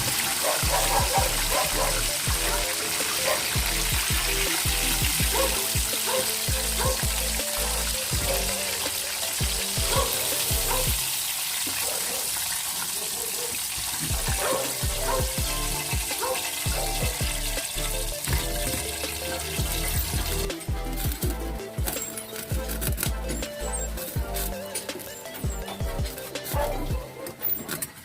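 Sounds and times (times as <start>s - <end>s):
background music: 0.0s - 11.7s, 14.0s - 28.0s
food sizzling in hot oil: 0.0s - 26.6s.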